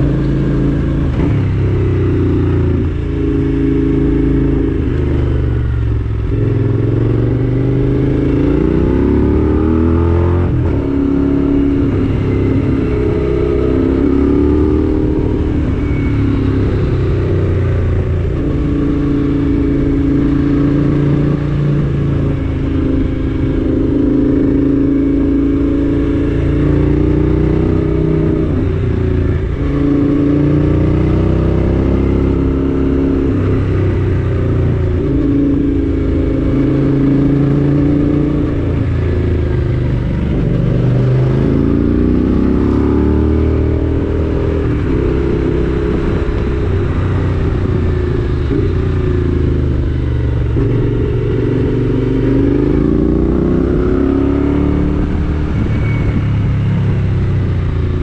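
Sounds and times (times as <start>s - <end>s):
vehicle engine accelerating uphill: 0.0s - 58.0s.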